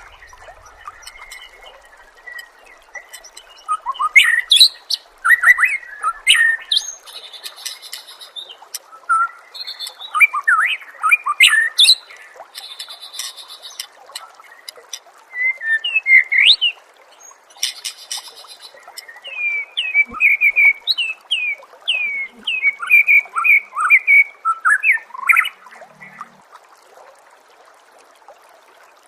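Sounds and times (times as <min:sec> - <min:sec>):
songbird singing: 0:00.0 - 0:26.3.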